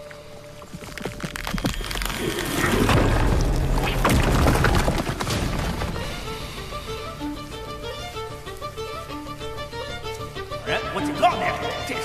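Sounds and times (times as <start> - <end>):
crackles: 0.0 - 10.6
rumbling film soundtrack: 0.0 - 12.0.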